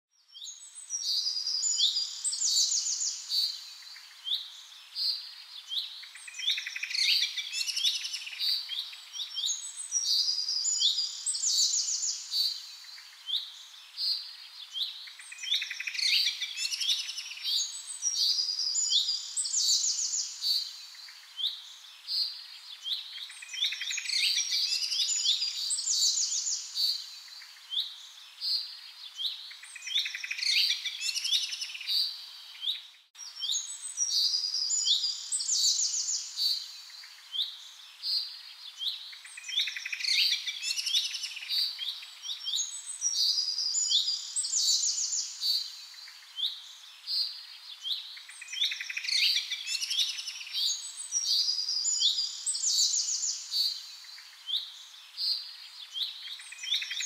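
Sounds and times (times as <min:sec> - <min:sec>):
songbirds chirping and singing: 0:00.2 - 0:57.0.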